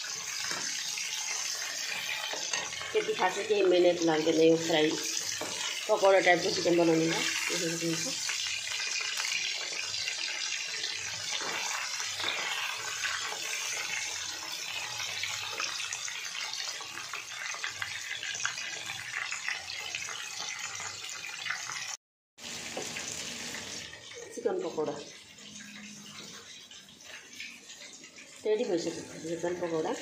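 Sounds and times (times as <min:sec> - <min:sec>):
food deep-frying in hot oil: 0:00.0 - 0:30.0.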